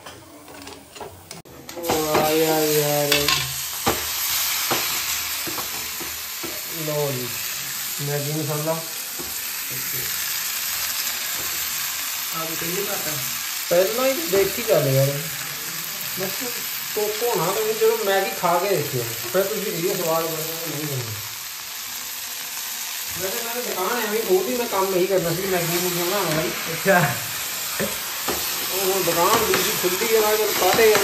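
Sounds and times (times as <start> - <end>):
noodles sizzling in oil: 1.7 - 31.0.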